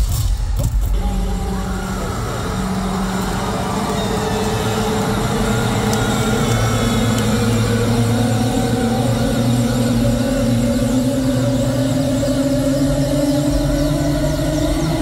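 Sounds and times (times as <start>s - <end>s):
faint crowd noise: 0.0s - 15.0s
sustained synth drone: 0.2s - 15.0s.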